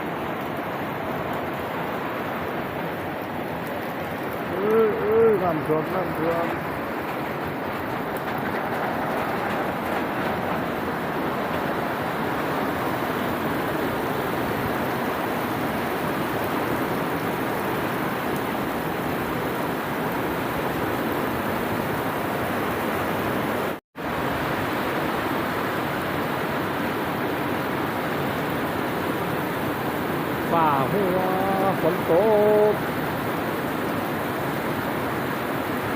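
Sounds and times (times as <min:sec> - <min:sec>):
heavy rain and running water: 0:00.0 - 0:35.9.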